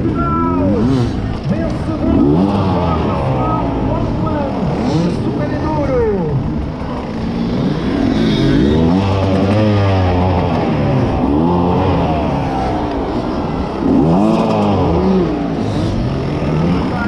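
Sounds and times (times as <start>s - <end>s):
motorcycle engine revving hard: 0.0s - 17.0s.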